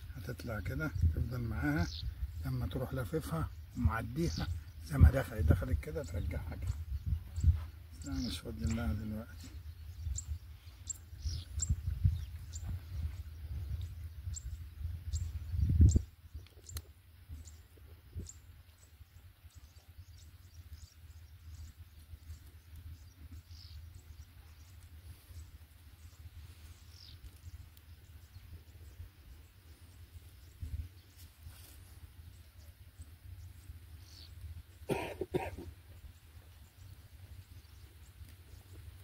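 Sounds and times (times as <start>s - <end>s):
low rumble of wind or handling: 0.0s - 34.9s
small birds chirping: 0.0s - 39.0s.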